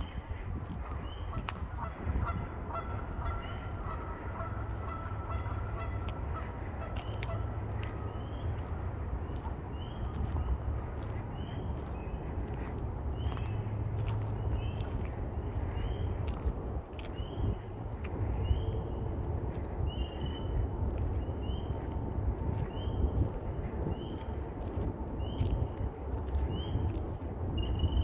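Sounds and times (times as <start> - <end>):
frogs peeping: 1.0 - 24.6.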